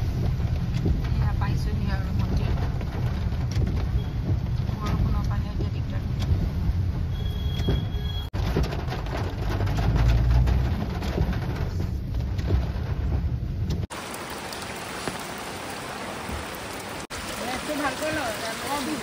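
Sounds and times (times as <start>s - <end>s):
rain falling in the open: 0.0s - 6.2s, 8.4s - 19.0s
rain drumming on car roof: 0.0s - 7.0s, 7.6s - 19.0s
car low rumble: 0.0s - 19.0s.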